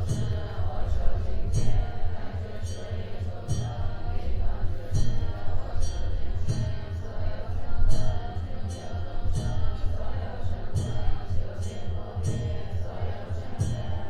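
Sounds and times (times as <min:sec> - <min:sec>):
women chanting together: 0:00.0 - 0:14.0.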